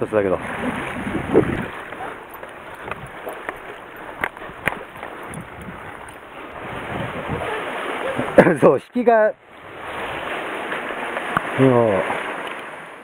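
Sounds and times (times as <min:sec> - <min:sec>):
sea water washing on concrete: 0:00.0 - 0:13.0
wind: 0:00.0 - 0:13.0.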